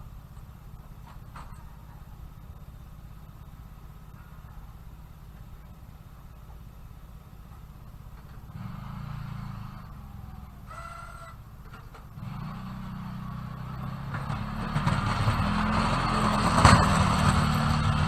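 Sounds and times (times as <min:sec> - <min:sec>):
snowplow engine running: 0:00.0 - 0:18.0.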